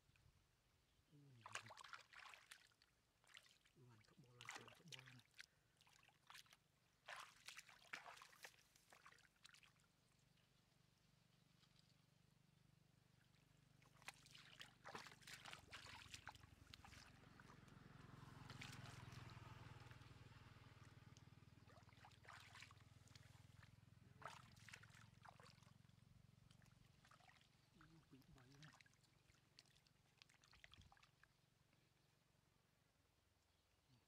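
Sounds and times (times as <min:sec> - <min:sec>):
splashing in shallow muddy water: 0:01.1 - 0:32.0.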